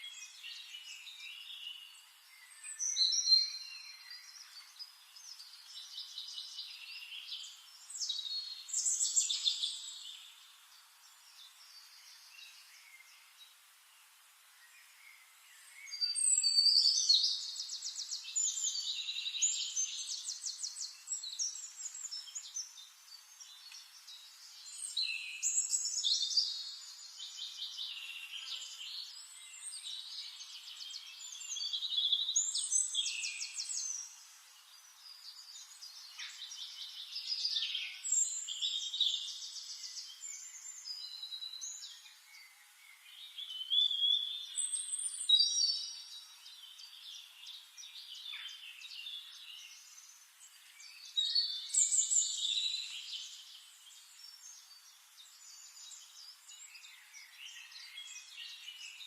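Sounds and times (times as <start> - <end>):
quiet bird twittering: 0.0 - 59.0
songbirds singing: 0.0 - 59.0.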